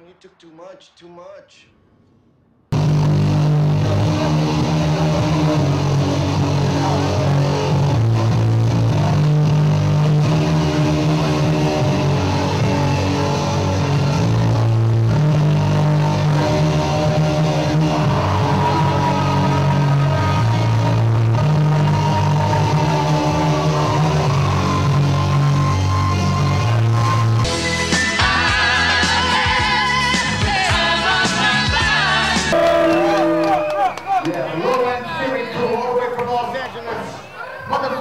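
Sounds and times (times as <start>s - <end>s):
music with held bass notes: 2.8s - 33.8s.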